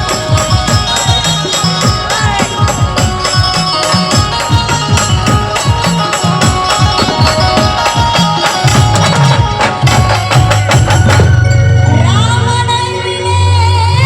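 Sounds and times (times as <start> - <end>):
fast drum and percussion beats: 0.0 - 13.0.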